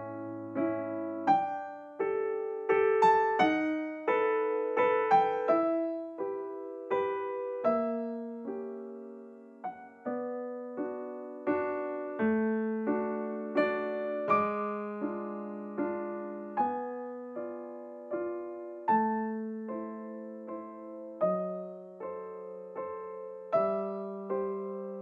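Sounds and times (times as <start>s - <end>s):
slow solo piano piece: 0.0s - 25.0s.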